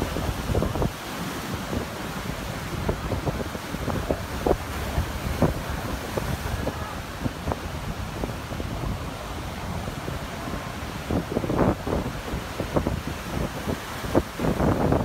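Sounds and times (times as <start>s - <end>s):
breaking surf: 0.0s - 15.0s
wind blowing on microphone: 0.0s - 15.0s.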